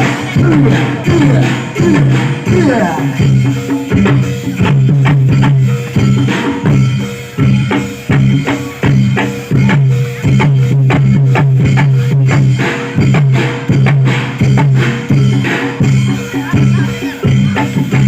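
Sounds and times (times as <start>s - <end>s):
drums and percussion ensemble: 0.0s - 18.0s.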